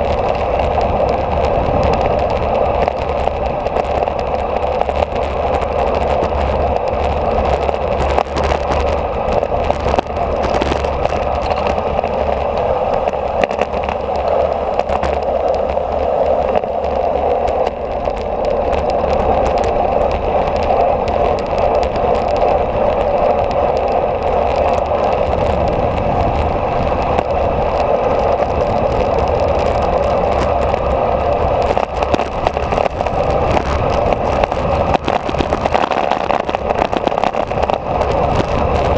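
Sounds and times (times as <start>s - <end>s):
tyre noise on road: 0.0s - 38.9s
wind rushing over microphone: 0.0s - 38.9s.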